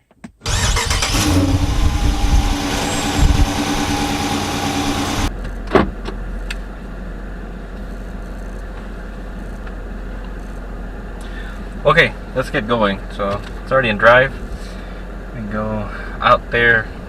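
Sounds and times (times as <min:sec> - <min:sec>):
car engine running: 0:00.5 - 0:17.0.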